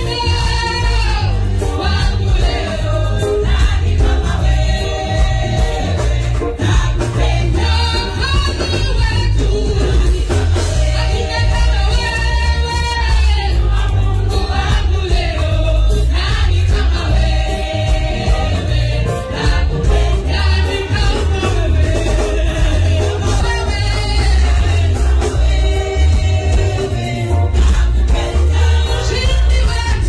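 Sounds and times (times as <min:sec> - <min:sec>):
amplified band with strong bass: 0:00.0 - 0:30.0
women's choir singing gospel: 0:00.0 - 0:30.0.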